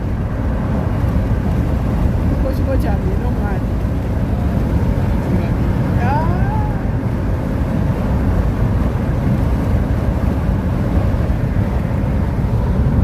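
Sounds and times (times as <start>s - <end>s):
small aircraft engine drone: 0.0s - 13.0s.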